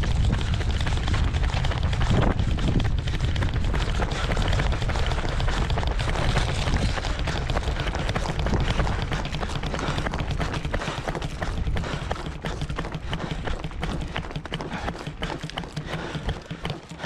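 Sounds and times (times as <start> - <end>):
wind buffeting microphone: 0.0 - 14.0
running footsteps on pavement: 0.0 - 17.0.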